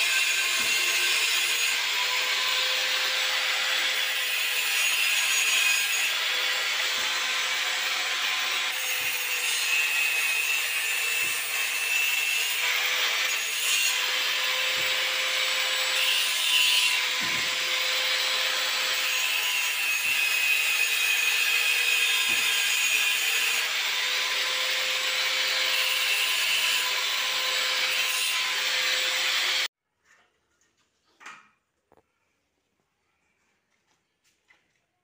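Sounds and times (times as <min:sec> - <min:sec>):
angle grinder cutting metal: 0:00.0 - 0:29.7.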